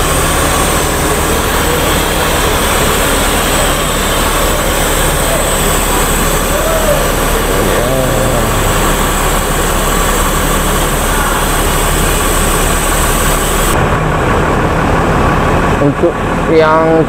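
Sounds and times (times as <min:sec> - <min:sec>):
diesel bus engine idling: 0:00.0 - 0:17.0.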